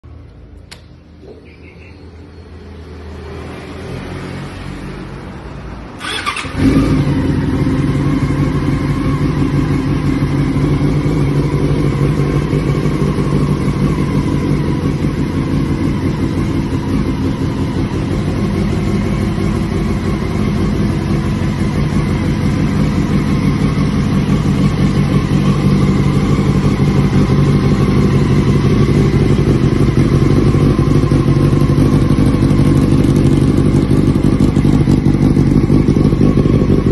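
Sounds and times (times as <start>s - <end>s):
motorcycle engine idling: 6.0s - 36.9s.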